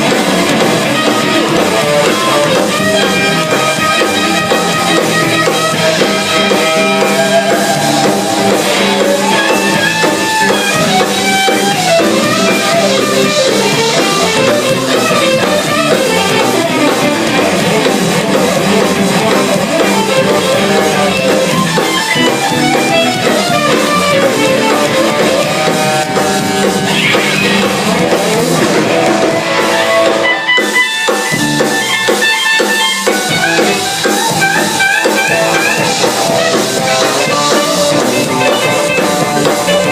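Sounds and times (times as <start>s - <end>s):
drum kit: 0.0s - 39.9s
guitar melody: 0.0s - 39.9s.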